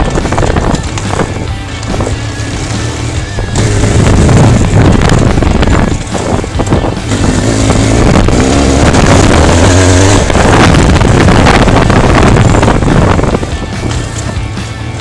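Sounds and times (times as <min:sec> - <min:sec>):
motorcycle engine under load: 0:00.0 - 0:15.0
wind noise on microphone: 0:00.0 - 0:15.0.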